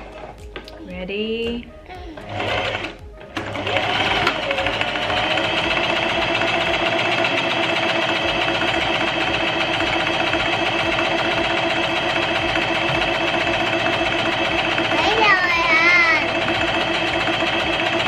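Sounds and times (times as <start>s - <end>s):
electric sewing machine running: 2.2s - 18.0s.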